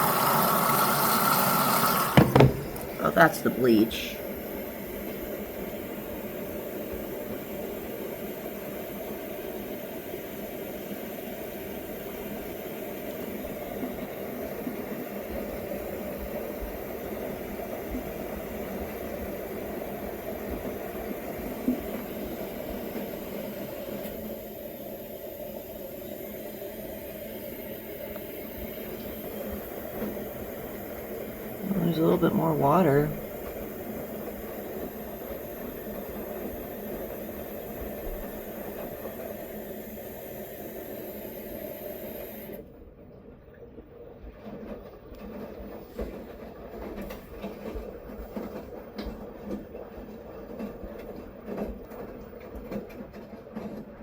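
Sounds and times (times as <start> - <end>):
water running into washing machine: 0.0 - 42.6, 44.1 - 54.0.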